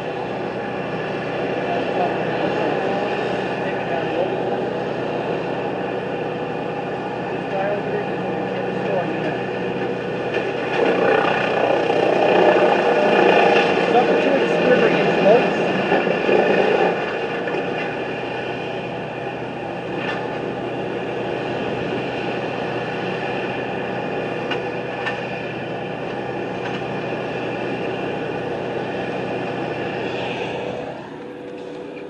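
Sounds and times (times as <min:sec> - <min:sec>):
machinery droning: 0:00.0 - 0:32.0.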